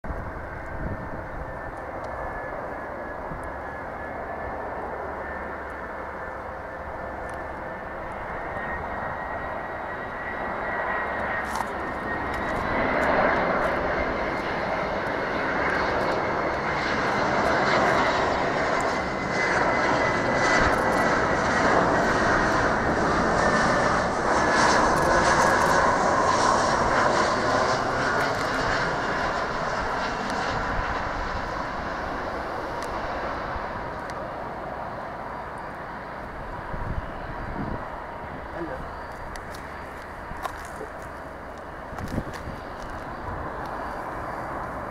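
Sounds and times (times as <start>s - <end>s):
jet engines droning and whining: 0.1s - 44.9s.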